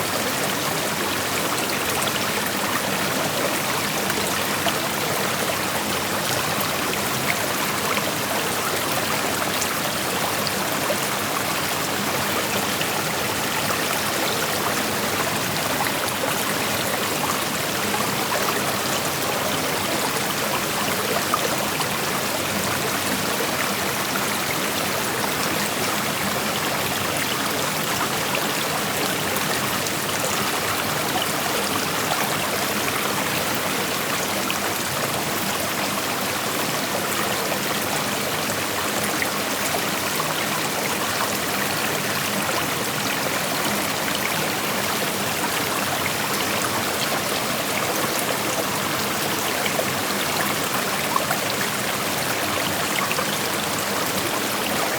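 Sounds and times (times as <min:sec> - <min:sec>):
creek flowing over rocks: 0:00.0 - 0:54.9.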